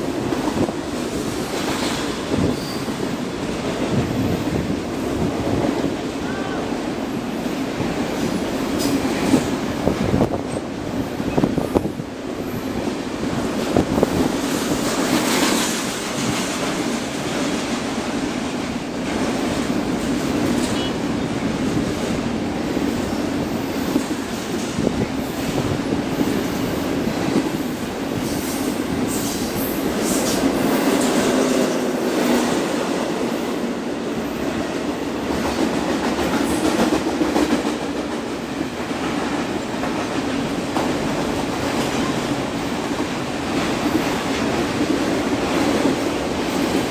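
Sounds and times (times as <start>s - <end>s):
clickety-clack of rail joints: 0.0s - 46.9s
train wheels rumbling on rails: 0.0s - 46.9s.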